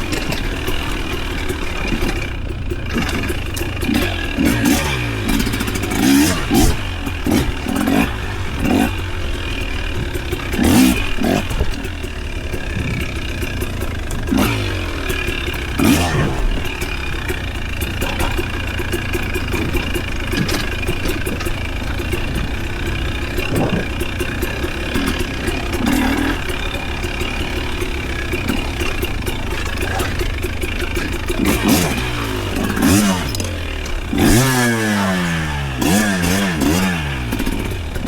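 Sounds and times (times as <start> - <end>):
knocks and clatter: 0.0 - 38.0
off-road vehicle engine revving: 0.0 - 38.0.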